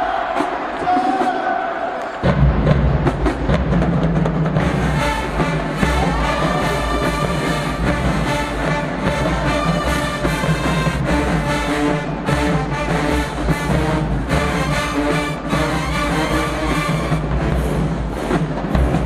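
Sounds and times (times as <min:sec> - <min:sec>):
drumline drumming: 0:00.0 - 0:19.0
marching band brass: 0:00.0 - 0:19.0.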